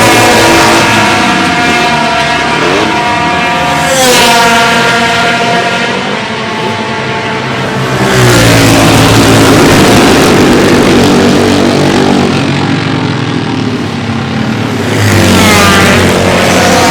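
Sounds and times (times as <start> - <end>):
two-stroke motorcycle engine revving: 0.0 - 16.9.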